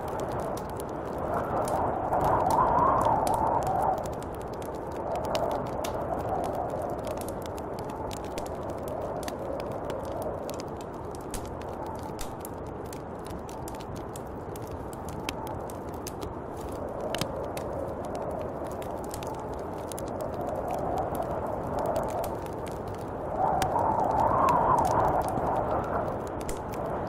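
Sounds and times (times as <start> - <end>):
small sharp crackles: 0.0 - 27.0
wind gusts: 0.0 - 27.0.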